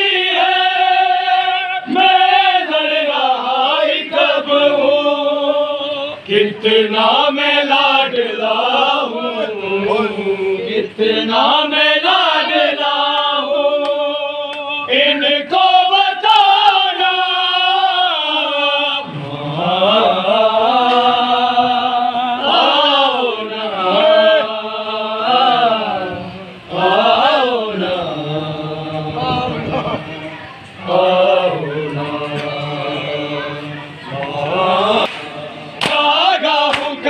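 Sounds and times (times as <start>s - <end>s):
men chanting a lament: 0.0s - 37.0s.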